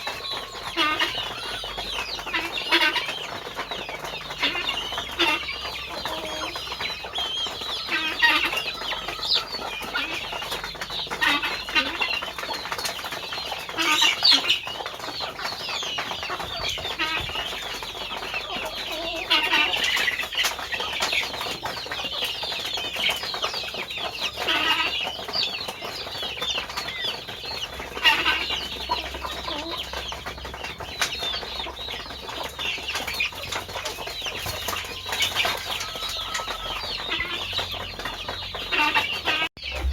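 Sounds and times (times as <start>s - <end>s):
chickens clucking and calling: 0.0s - 39.9s.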